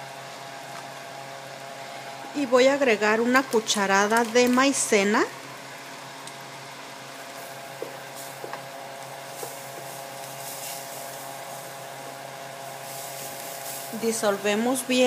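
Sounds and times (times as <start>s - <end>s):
onion and garlic sizzling: 0.0s - 15.0s.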